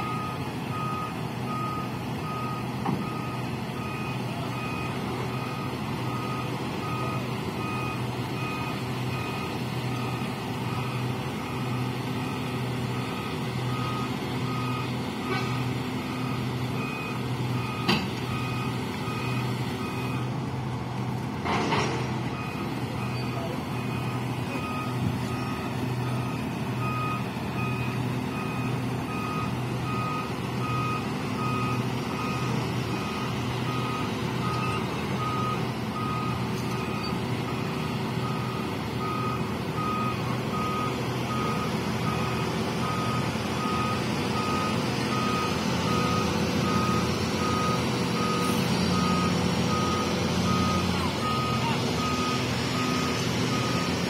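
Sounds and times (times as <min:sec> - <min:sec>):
excavator travel alarm beeping: 0:00.0 - 0:20.3, 0:22.3 - 0:54.0
diesel engine running: 0:00.0 - 0:54.0.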